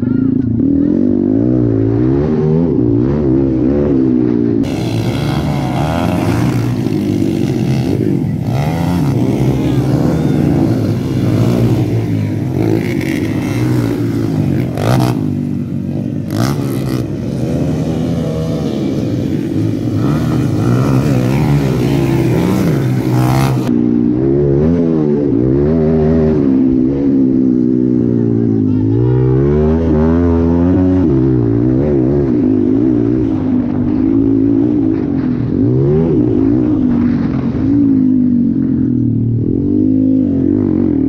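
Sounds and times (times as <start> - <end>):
close bike engine revving hard: 0.0 - 41.0
motocross bikes revving: 0.0 - 41.0.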